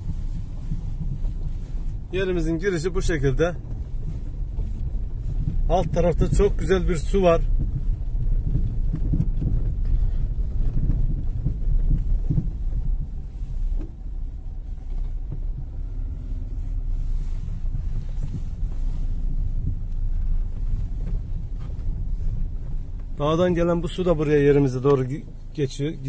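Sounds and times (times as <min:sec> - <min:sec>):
knocks and bumps from rough ground: 0:00.0 - 0:25.6
car engine and tyres rumbling: 0:00.0 - 0:26.0.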